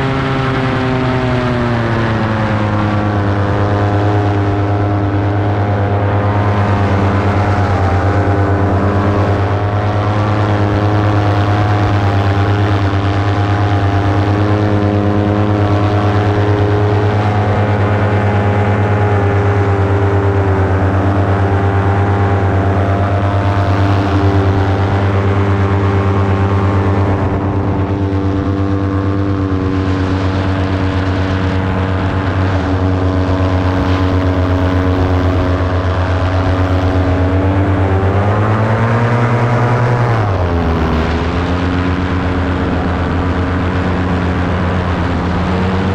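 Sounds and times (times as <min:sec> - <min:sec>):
paramotor engine and propeller: 0:00.0 - 0:45.9.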